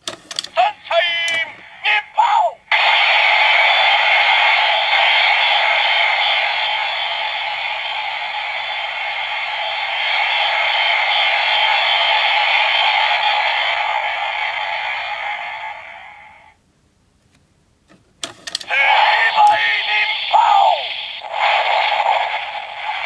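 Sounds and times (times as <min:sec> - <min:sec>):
toy belt electronic rushing hiss: 0:02.7 - 0:16.6, 0:18.2 - 0:23.0.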